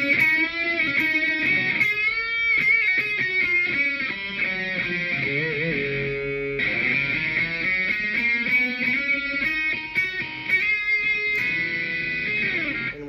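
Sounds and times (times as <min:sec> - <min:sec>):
electric guitar lead lines: 0:00.0 - 0:13.0.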